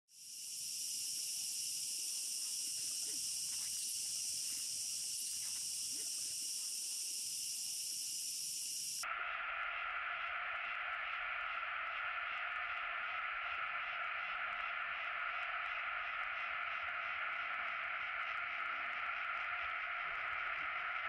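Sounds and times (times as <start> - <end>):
high-pitched insect drone: 0.1 - 21.0.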